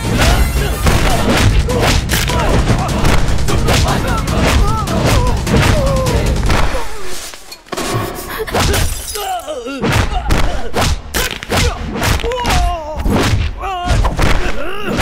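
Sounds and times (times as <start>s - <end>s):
punch impacts: 0.0s - 7.0s, 9.8s - 15.0s.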